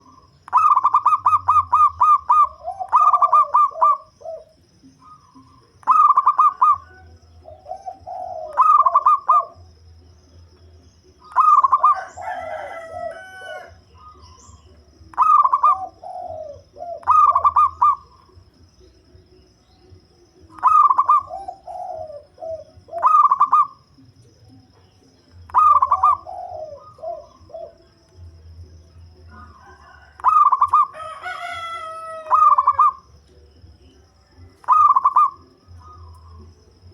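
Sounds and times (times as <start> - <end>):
dove cooing: 0.0 - 36.9.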